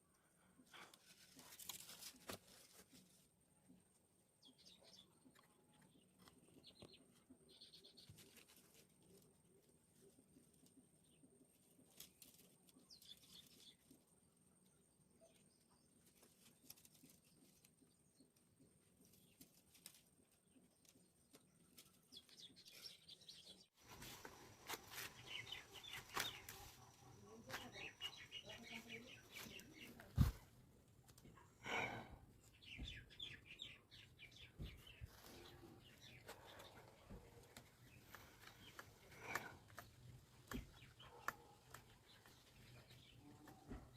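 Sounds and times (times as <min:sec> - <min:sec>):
birds chirping faintly: 0:03.0 - 0:43.9.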